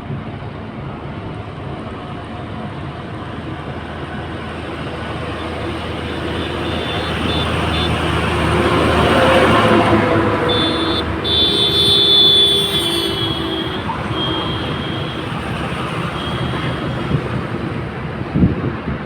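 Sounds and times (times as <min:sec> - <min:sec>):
heavy diesel machinery running: 0:00.3 - 0:19.0.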